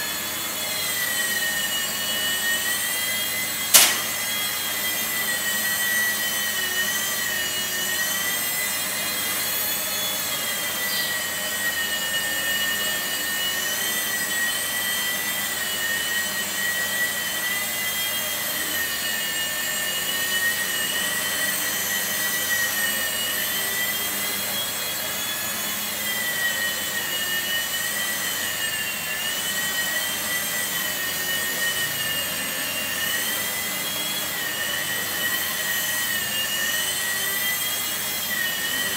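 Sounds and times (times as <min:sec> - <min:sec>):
toy helicopter rotor whine: 0:00.0 - 0:38.9.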